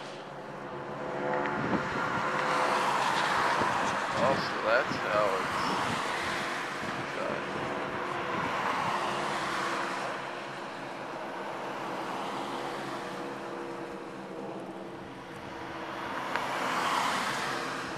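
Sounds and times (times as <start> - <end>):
propeller aircraft engine droning: 0.0 - 17.9.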